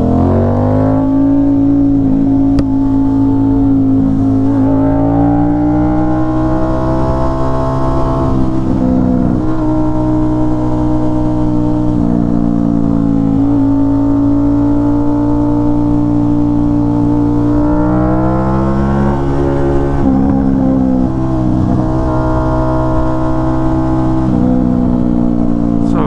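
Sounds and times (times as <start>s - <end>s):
motorcycle engine while riding: 0.0s - 26.0s.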